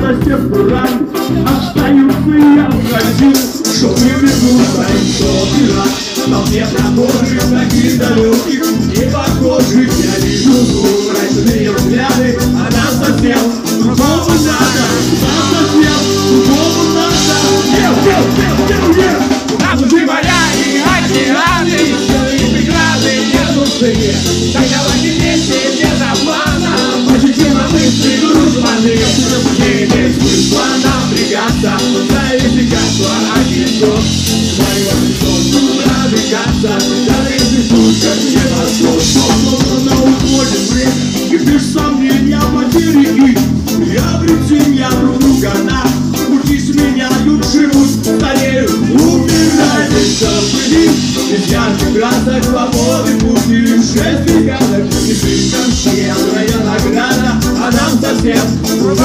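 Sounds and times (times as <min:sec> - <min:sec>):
bass guitar: 0:00.0 - 0:59.0
drums: 0:00.0 - 0:59.0
electric guitars: 0:00.0 - 0:59.0
man singing into a microphone: 0:00.0 - 0:59.0.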